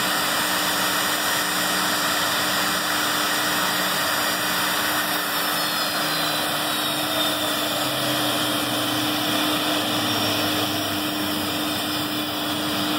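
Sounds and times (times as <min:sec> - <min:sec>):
jet engine whine falling in pitch: 0:00.0 - 0:12.9
jet engines roaring: 0:00.0 - 0:12.9.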